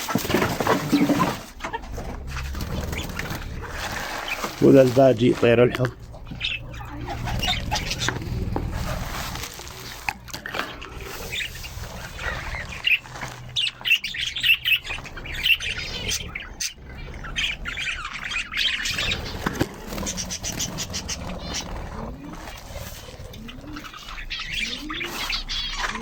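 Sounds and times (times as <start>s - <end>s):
budgerigars chirping and squawking: 0.0s - 26.0s
fast chattering bird trill: 2.5s - 8.5s, 10.9s - 26.0s.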